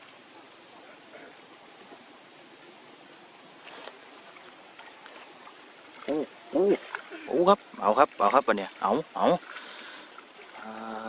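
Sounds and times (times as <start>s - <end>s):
faint hiss: 0.0s - 11.0s
insects droning: 0.0s - 11.0s.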